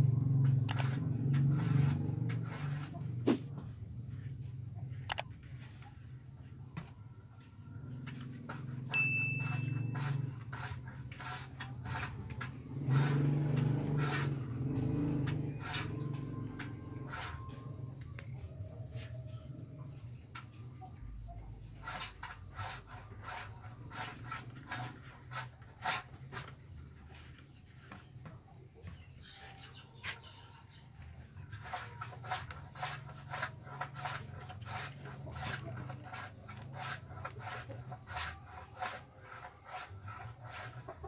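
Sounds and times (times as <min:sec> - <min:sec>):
cricket chirping: 0:00.0 - 0:29.3, 0:30.4 - 0:41.0.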